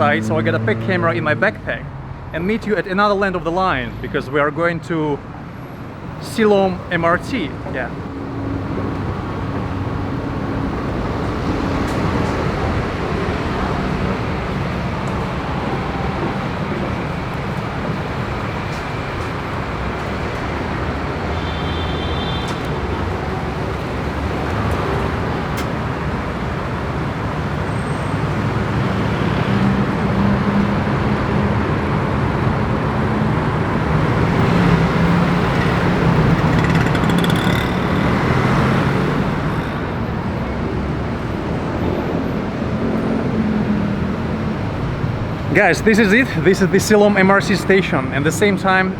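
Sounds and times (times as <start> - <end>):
road traffic passing: 0.0 - 48.9.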